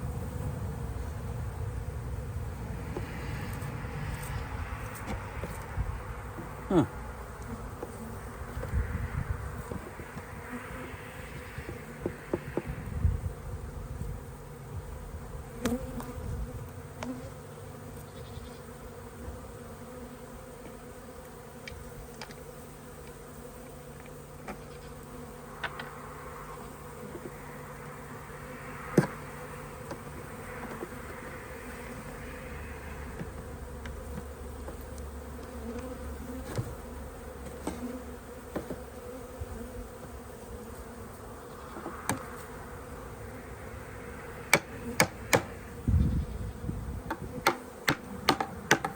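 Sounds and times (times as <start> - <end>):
bees buzzing: 0.0 - 48.9.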